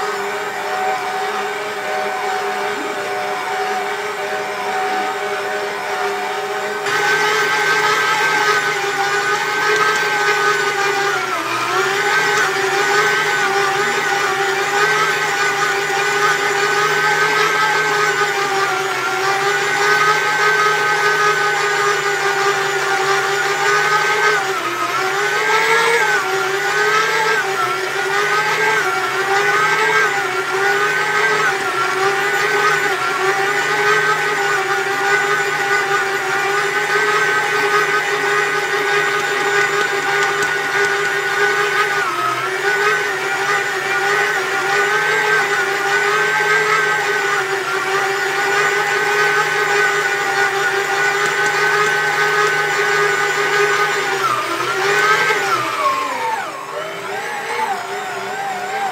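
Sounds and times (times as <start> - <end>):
stand mixer motor whining: 0.0 - 58.9.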